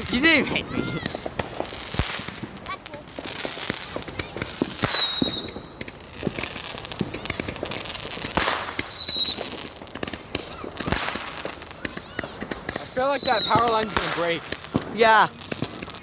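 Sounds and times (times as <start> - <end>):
firework whistles: 0.0 - 16.0
fireworks popping and crackling: 0.0 - 16.0.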